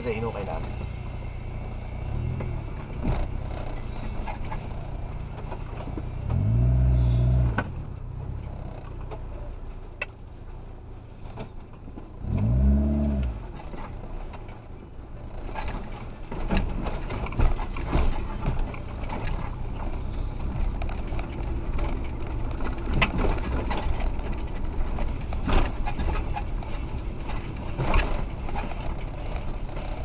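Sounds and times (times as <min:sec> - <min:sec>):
knocks and rattles from vehicle body: 0:00.0 - 0:06.6, 0:07.5 - 0:12.6, 0:13.2 - 0:30.0
off-road vehicle engine running: 0:00.0 - 0:30.0.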